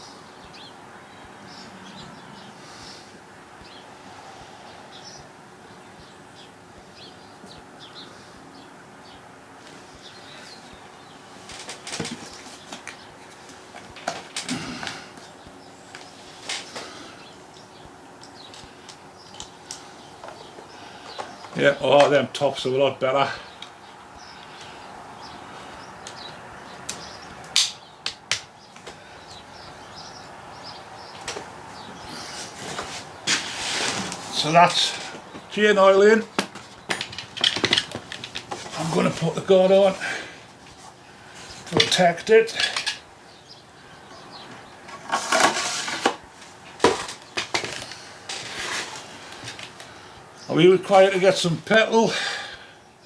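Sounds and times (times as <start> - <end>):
birds chirping faintly: 0.0 - 53.0.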